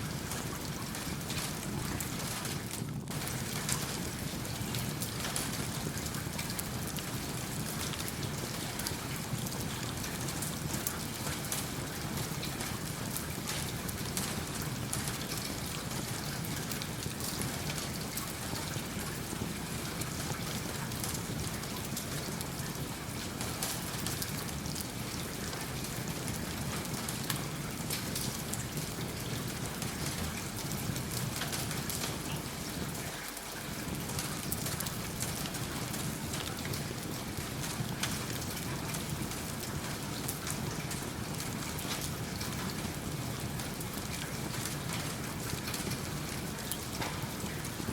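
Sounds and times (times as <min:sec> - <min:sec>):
steady rain falling: 0:00.0 - 0:47.9
wood fire crackling: 0:00.2 - 0:09.5, 0:10.1 - 0:47.9.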